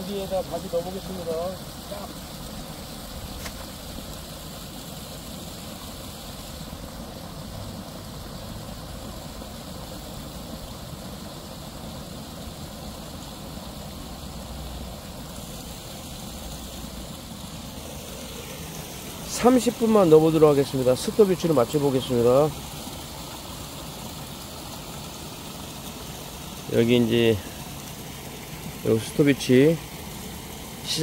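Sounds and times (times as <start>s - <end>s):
water pouring from a pipe: 0.0s - 31.0s.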